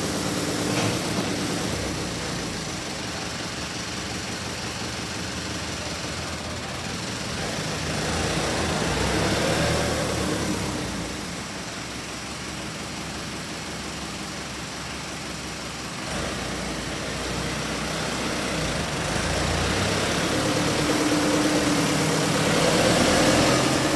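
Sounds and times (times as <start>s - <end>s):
tractor diesel engine idling: 0.0s - 23.9s.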